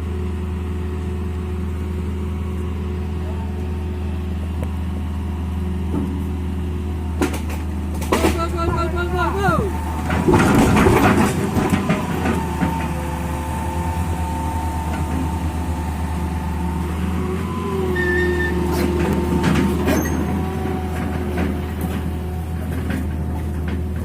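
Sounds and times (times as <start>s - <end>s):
heavy vehicle engine droning: 0.0s - 24.0s
steady whine: 1.6s - 22.8s.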